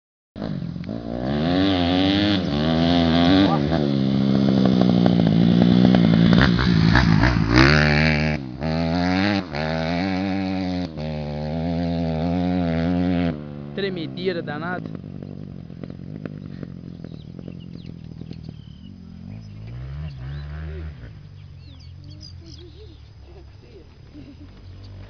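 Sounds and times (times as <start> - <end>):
motorbike engine revving: 0.4 - 25.0.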